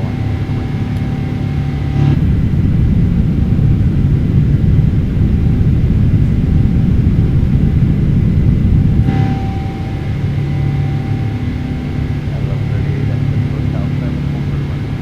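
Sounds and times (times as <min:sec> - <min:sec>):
airplane engines rumbling: 0:00.0 - 0:15.0.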